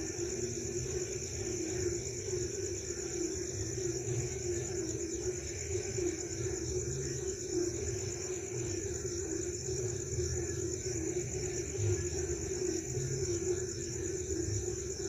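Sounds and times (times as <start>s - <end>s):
frog chorus: 0.0s - 15.0s
high insect trill: 0.0s - 15.0s.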